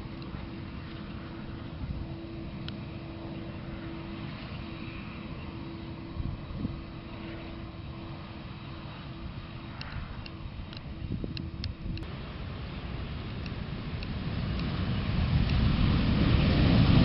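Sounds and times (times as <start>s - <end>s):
distant jet engines rumbling: 0.0s - 17.0s.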